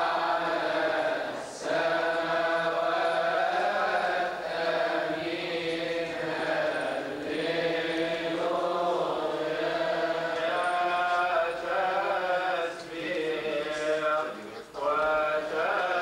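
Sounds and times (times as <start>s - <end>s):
voices chanting a hymn: 0.0s - 16.0s.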